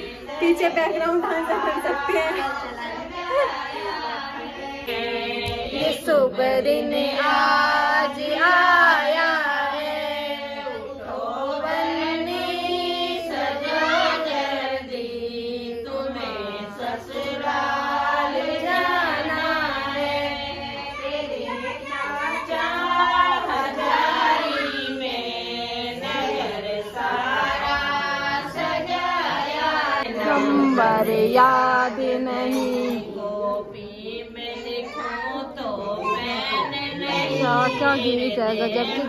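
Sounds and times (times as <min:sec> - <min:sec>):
woman singing unaccompanied: 0:00.0 - 0:39.0.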